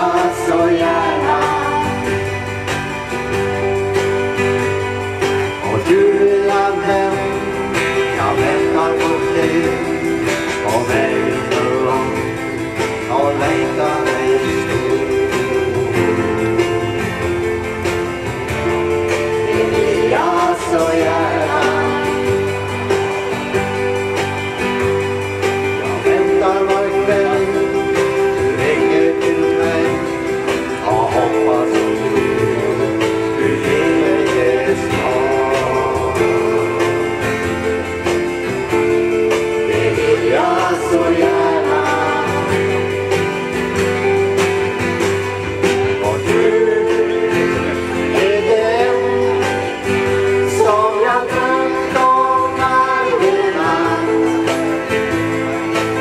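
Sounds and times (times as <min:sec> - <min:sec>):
people singing: 0:00.0 - 0:03.8, 0:05.6 - 0:24.9, 0:25.6 - 0:44.2, 0:45.9 - 0:56.0
strummed acoustic guitars: 0:00.0 - 0:56.0.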